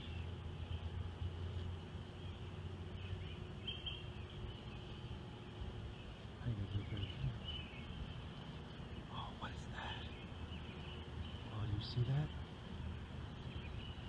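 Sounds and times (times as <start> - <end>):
faint bird chirps: 0.0 - 14.0
steady low hum: 0.0 - 14.0.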